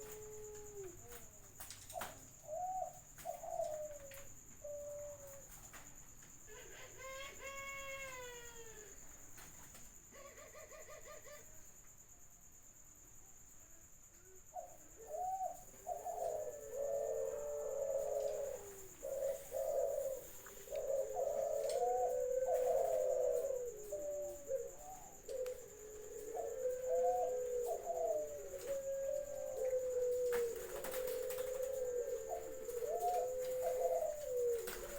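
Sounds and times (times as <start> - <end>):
doves cooing: 0.0 - 11.6, 14.4 - 34.9.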